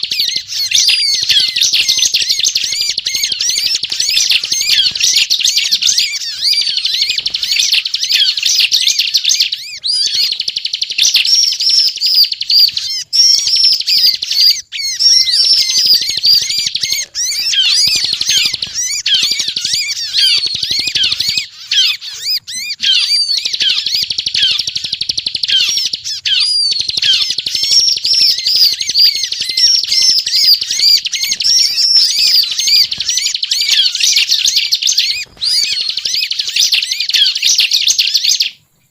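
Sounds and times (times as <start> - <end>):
bird singing rapid chattering song: 0.0 - 38.9.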